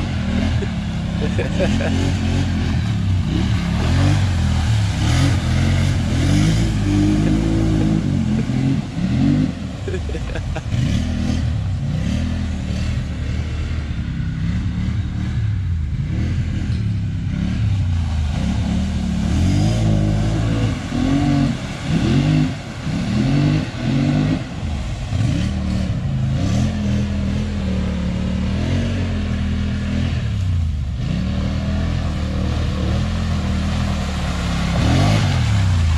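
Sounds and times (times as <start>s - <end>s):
atv engines revving: 0.0s - 35.9s.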